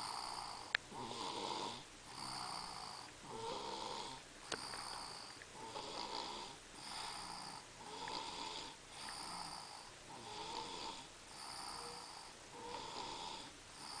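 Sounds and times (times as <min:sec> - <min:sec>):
person snoring with rasping: 0:00.0 - 0:14.0.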